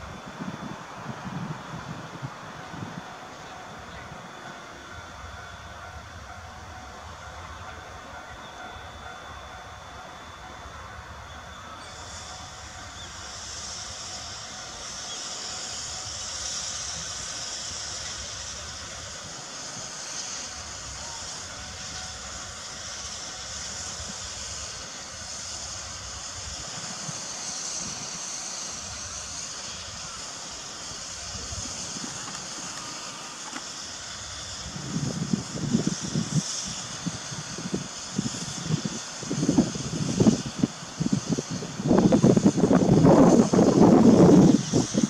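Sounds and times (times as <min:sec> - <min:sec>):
steam hissing: 0:00.0 - 0:45.0.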